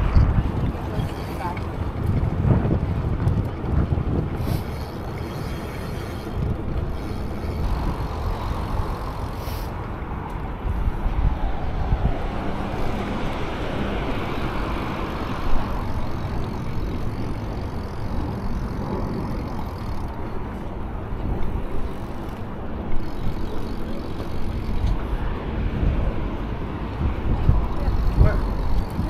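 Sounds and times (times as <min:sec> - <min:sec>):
tyres rolling on pavement: 0:00.0 - 0:29.0
wind buffeting microphone: 0:00.0 - 0:29.0.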